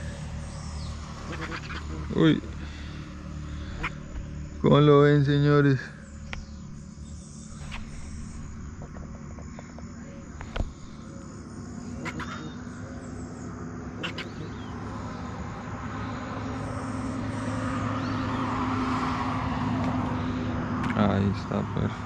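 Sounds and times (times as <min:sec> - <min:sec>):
motor droning: 0:00.0 - 0:22.0.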